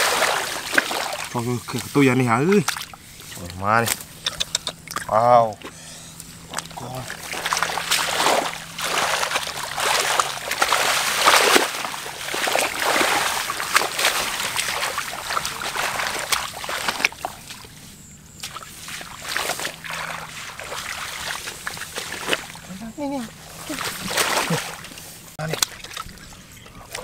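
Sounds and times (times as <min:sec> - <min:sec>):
water splashing and sloshing: 0:00.0 - 0:27.0
water trickling: 0:00.0 - 0:27.0.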